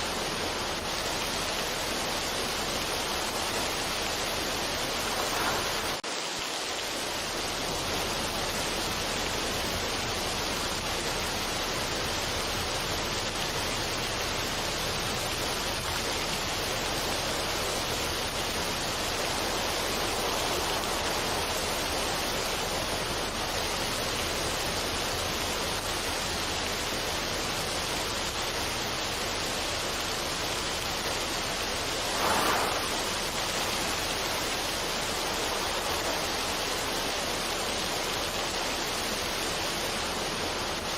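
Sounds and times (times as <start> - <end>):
steady rushing noise: 0.0 - 26.0, 28.6 - 40.9.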